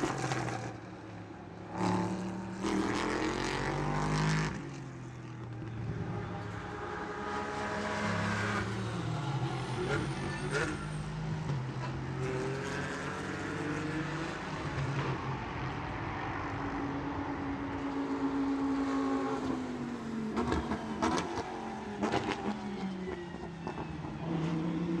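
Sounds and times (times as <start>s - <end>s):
racing cars passing by: 0.0s - 25.0s.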